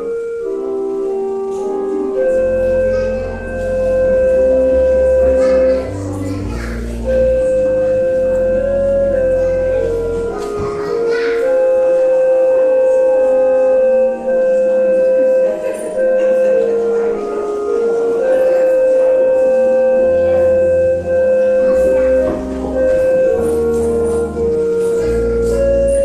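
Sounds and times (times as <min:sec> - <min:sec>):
low bass notes: 0:00.0 - 0:26.0
slow melody of held notes: 0:00.0 - 0:26.0.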